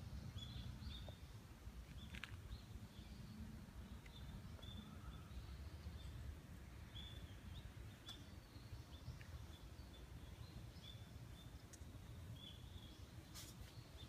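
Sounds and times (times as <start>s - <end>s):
small bird chirping: 0.0s - 6.2s, 6.9s - 14.0s.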